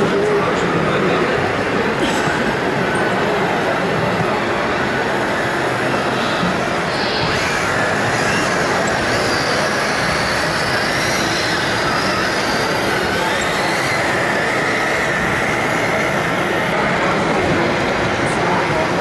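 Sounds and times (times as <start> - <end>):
electric model truck motors whining: 0.0 - 19.0
steady dense noise: 0.0 - 19.0.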